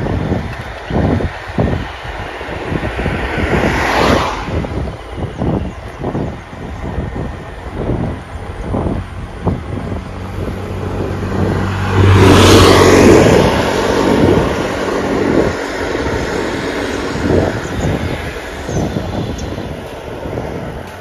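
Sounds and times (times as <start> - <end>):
motor scooter passing: 0.0 - 21.0
wind on microphone: 0.0 - 21.0.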